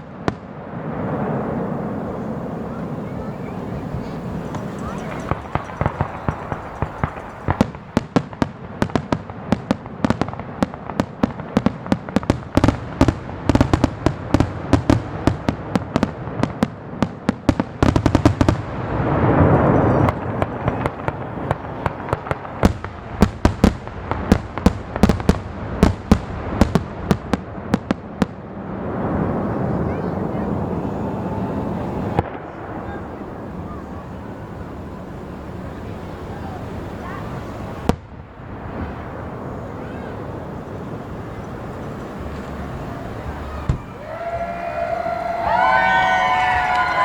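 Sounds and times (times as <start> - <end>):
fireworks cracking and banging: 0.0 - 47.0.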